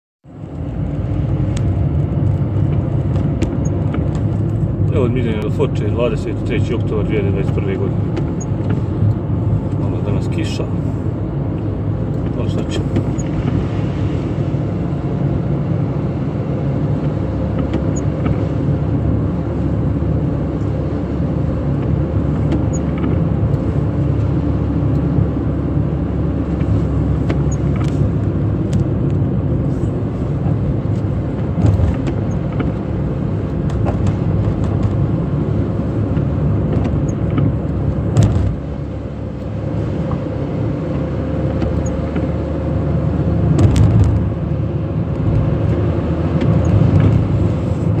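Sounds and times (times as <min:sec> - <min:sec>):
car engine and tyres rumbling: 0:00.2 - 0:48.0.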